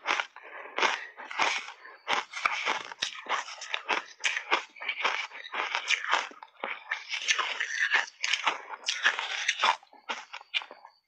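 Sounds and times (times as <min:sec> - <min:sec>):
crunchy ice chewing: 0:00.0 - 0:11.0.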